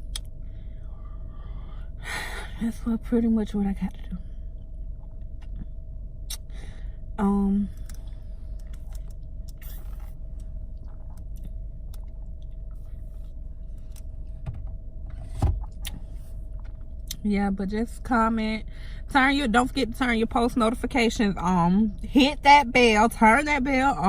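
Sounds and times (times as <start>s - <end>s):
car cabin hum: 0.0s - 24.0s.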